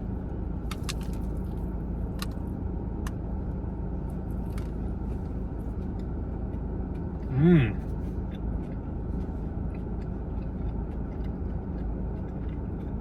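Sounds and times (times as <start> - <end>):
car engine low rumble: 0.0 - 13.0
chewing crunchy food: 0.7 - 2.5, 4.1 - 13.0.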